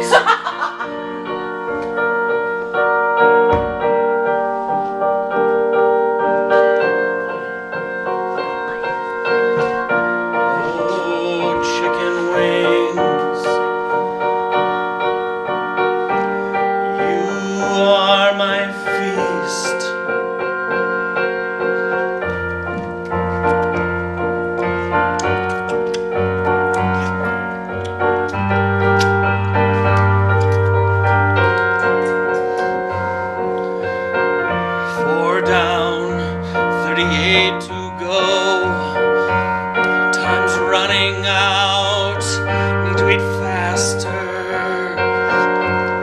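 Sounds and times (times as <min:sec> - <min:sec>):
piano chords: 0:00.0 - 0:46.0.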